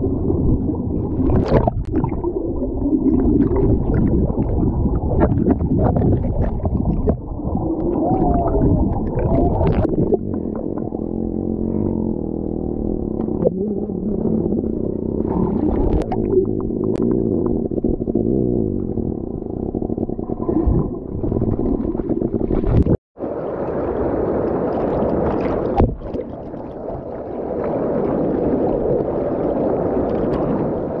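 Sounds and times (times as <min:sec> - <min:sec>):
underwater stream rumble: 0:00.0 - 0:31.0.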